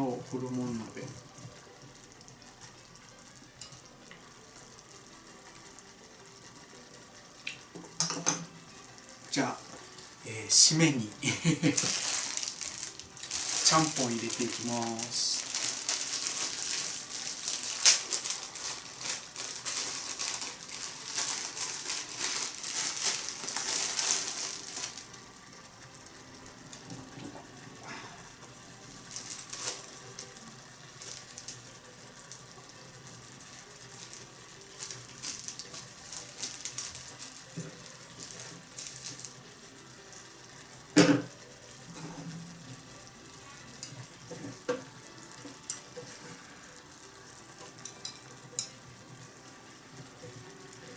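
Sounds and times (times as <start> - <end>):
food sizzling in a pot: 0.0 - 50.9.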